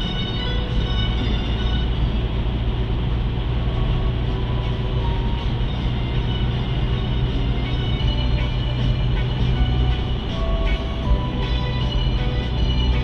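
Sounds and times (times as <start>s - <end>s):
car engine hum: 0.0s - 13.0s
tyre road noise: 0.0s - 13.0s.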